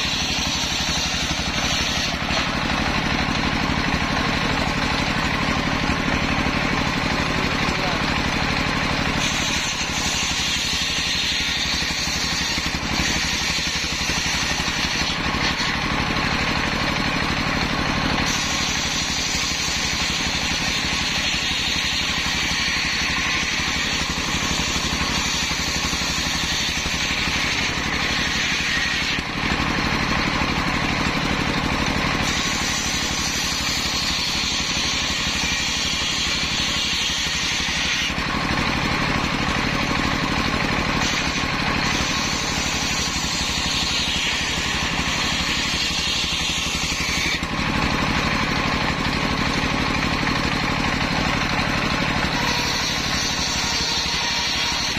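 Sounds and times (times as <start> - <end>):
circular saw ripping log: 0.0 - 54.9
diesel engine running: 0.0 - 54.9.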